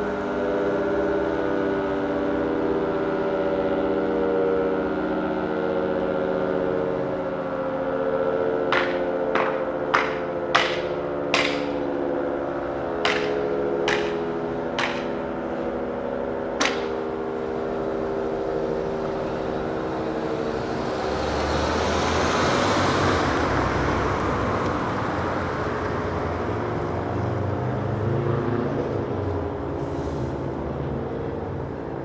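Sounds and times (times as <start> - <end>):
motor vehicle passing by: 0.0 - 32.0.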